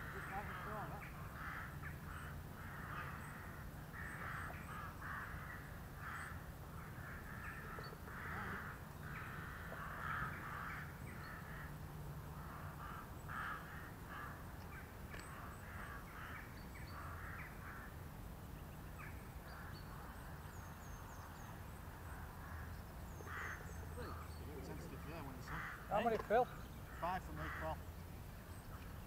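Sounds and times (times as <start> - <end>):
faint birds calling: 0.0 - 29.0.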